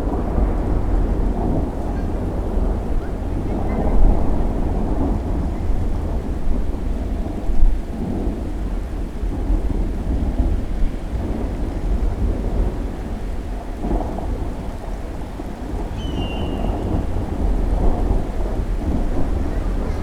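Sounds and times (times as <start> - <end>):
steady rain: 0.0 - 20.0
thunder rumbling low: 0.0 - 20.0.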